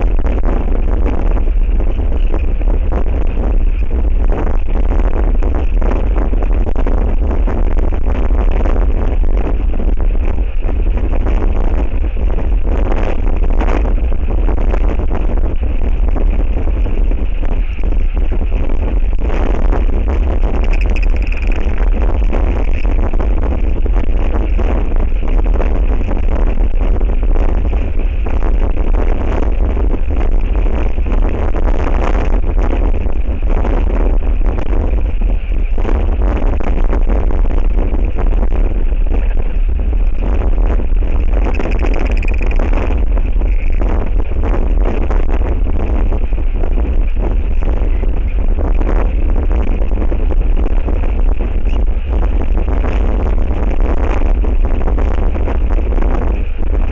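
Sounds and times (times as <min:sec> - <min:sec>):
strong wind on microphone: 0:00.0 - 0:56.9.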